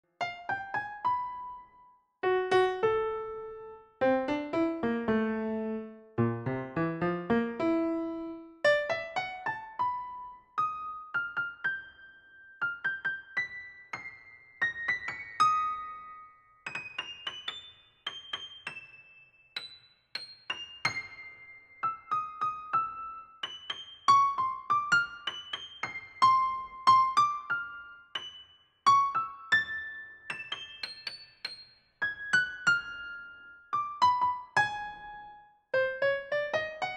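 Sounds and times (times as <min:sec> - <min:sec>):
piano music: 0:00.2 - 0:18.8, 0:19.6 - 0:36.9.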